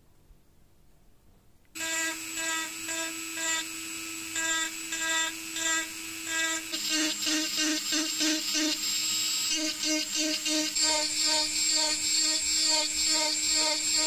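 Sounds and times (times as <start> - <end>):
rotary tool whining into wood: 1.8 - 14.0.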